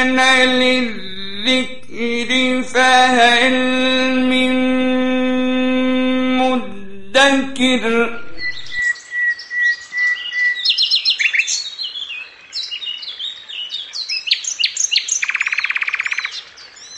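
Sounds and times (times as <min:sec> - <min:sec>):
birds chirping and singing: 0:00.0 - 0:05.2, 0:06.5 - 0:16.9.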